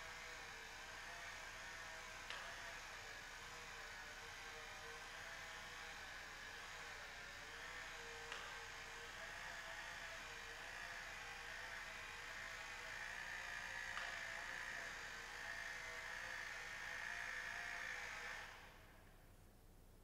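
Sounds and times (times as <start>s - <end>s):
small electric motor whirring: 0.0s - 19.2s.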